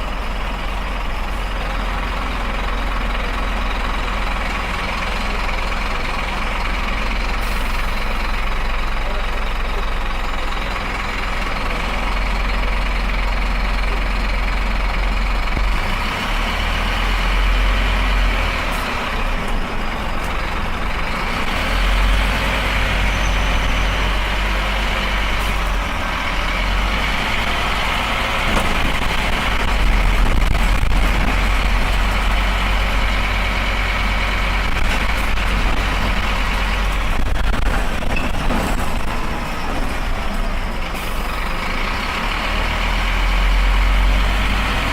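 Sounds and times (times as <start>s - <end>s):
bus diesel engine droning: 0.0s - 44.9s
road noise: 0.0s - 44.9s.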